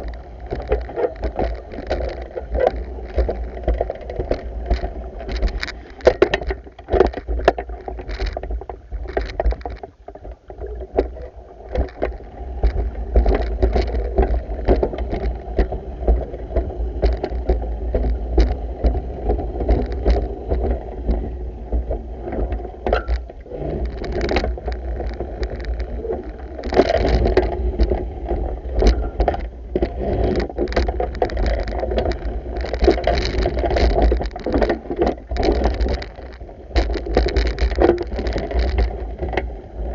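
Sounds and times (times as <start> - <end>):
small knocks: 0.0 - 39.5.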